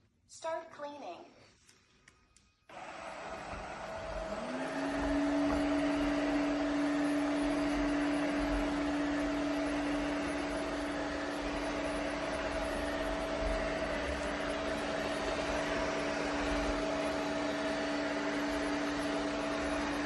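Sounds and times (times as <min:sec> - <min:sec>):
robot vacuum suction motor whine: 0:02.7 - 0:20.0.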